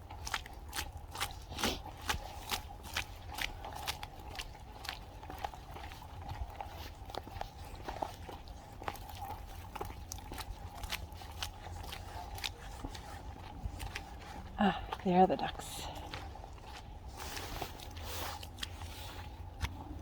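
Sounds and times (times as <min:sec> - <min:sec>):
footsteps crunching in snow: 0:00.3 - 0:20.0.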